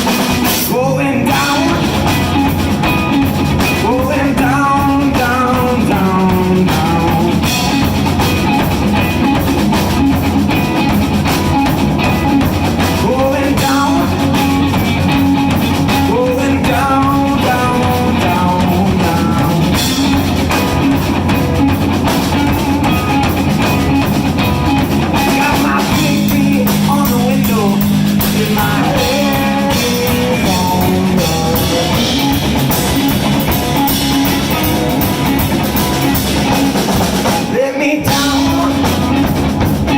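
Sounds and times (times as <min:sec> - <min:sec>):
blues band playing live: 0:00.0 - 0:39.9.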